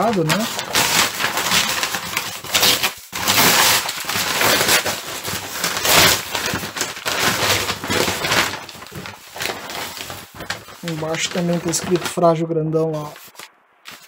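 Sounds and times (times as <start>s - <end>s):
paper being torn off a box: 0.0s - 12.2s, 13.1s - 14.0s.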